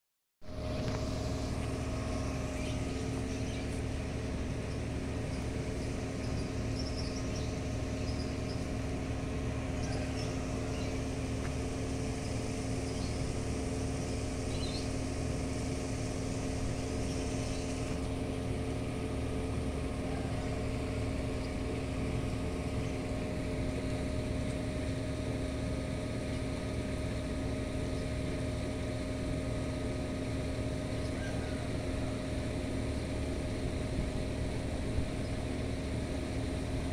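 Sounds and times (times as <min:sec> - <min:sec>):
motor humming: 0:00.5 - 0:36.9.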